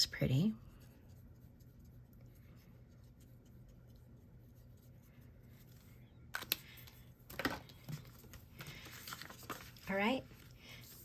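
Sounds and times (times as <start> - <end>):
faint steady hum: 0.0 - 11.0
paper cards being handled: 1.0 - 11.0.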